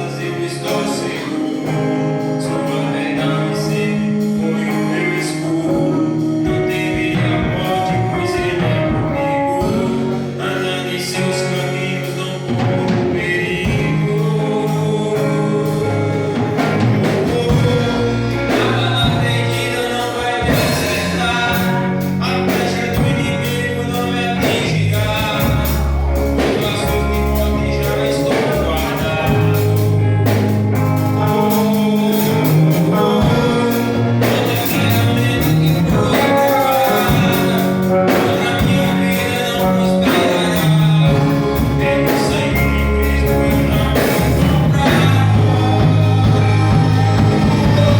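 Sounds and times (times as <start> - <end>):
bass: 0.0 - 47.9
gospel singing: 0.0 - 47.9
guitar: 0.0 - 47.9.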